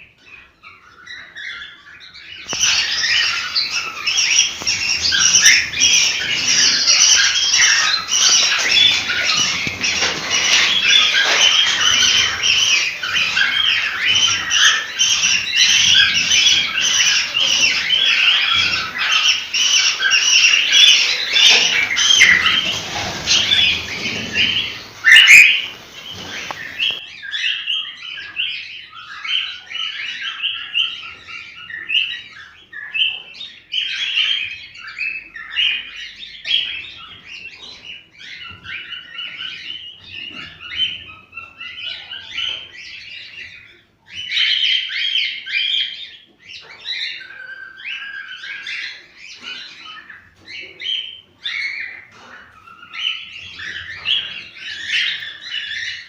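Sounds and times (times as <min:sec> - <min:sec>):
cockatiels chirping and warbling: 0:00.0 - 0:56.0.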